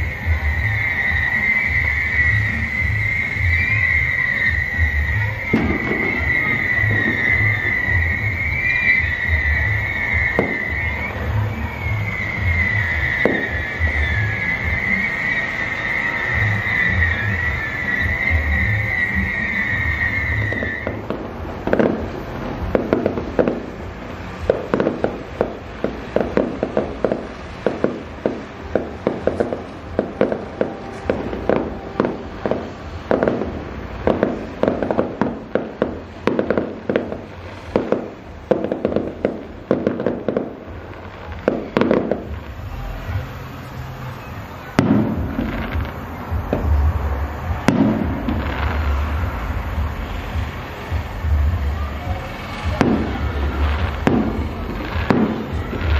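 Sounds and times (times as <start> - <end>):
firework bangs and crackling pops: 0.0 - 55.9.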